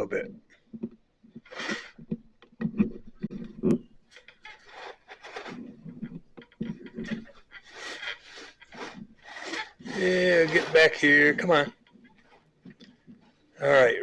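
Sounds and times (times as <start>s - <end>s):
handling rubbing and scraping: 0.0s - 14.0s.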